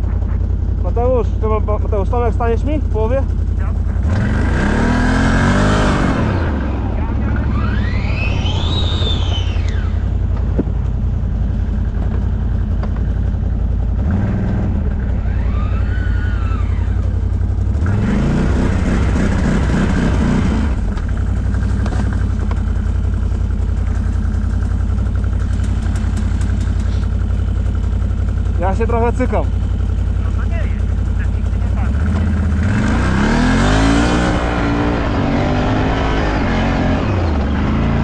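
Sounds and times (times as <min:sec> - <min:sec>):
quad bike engine revving: 0:00.0 - 0:10.8, 0:13.9 - 0:38.0.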